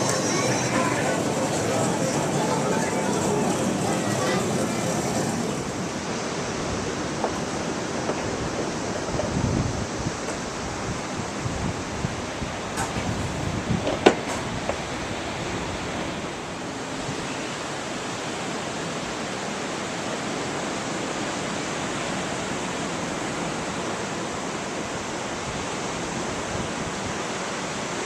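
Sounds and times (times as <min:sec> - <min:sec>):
ocean surf rushing: 0:00.0 - 0:28.0
wind: 0:00.0 - 0:28.0.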